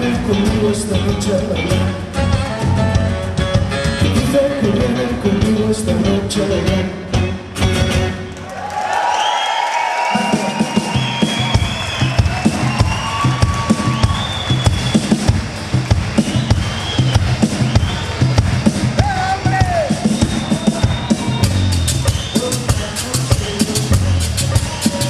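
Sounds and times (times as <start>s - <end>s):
live band playing: 0.0s - 8.4s, 10.0s - 25.0s.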